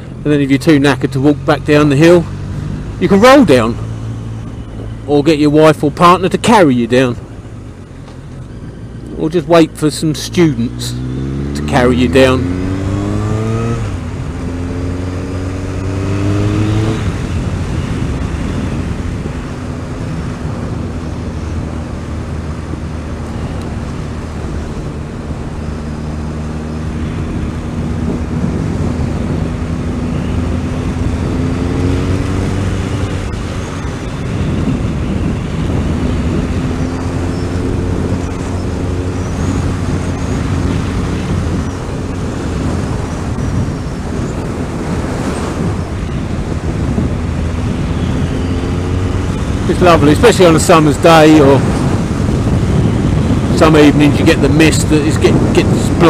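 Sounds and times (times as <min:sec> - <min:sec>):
motorcycle engine accelerating: 0:00.0 - 0:05.9, 0:07.2 - 0:56.0
wind rushing: 0:06.9 - 0:56.0.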